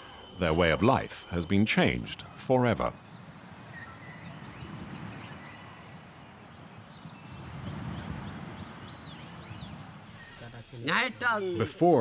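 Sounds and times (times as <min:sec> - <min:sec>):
bird chirps: 0:00.0 - 0:10.8
high insect drone: 0:00.0 - 0:12.0.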